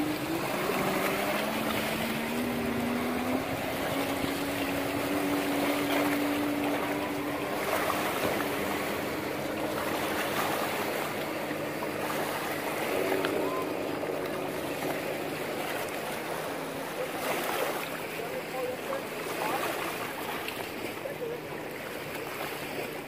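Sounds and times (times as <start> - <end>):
boat engine droning: 0.0 - 23.0
water rushing: 0.0 - 23.0
wind: 0.0 - 23.0.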